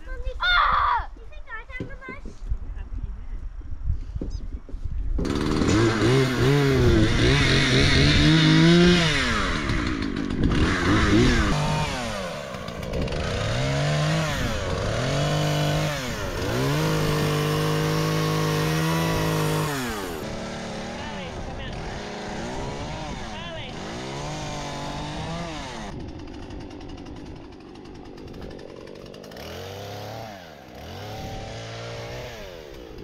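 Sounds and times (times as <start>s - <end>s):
chainsaw revving and cutting: 5.2s - 33.0s.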